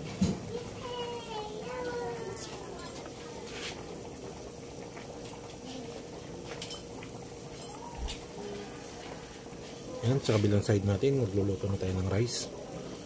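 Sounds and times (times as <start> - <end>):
broth bubbling: 0.0 - 13.0.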